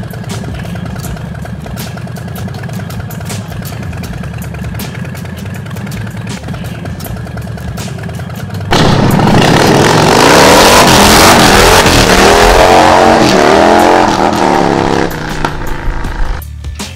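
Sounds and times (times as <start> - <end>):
motorcycle engine revving: 0.0 - 16.4
motorcycle engine idling: 0.0 - 16.6.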